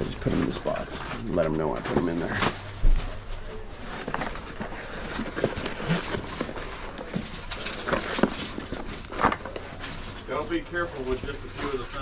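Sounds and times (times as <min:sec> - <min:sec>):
low steady hum: 0:00.0 - 0:12.0
cards and card box handled: 0:00.2 - 0:10.3.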